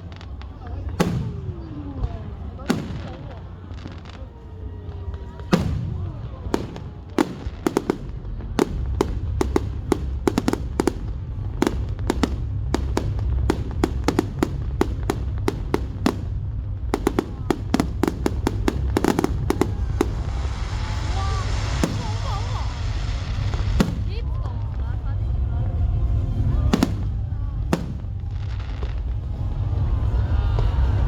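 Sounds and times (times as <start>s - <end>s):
fireworks bangs and cracks: 0.0s - 25.2s, 26.1s - 31.0s
low rumble: 0.0s - 31.0s.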